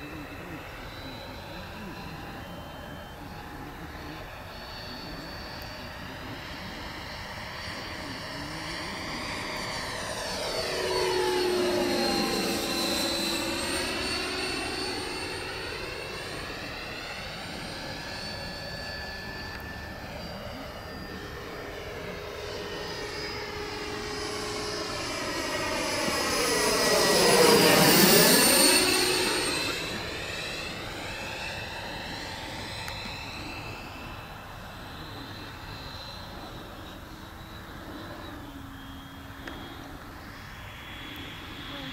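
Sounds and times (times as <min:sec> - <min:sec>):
model jet fan whining: 0:00.0 - 0:41.9.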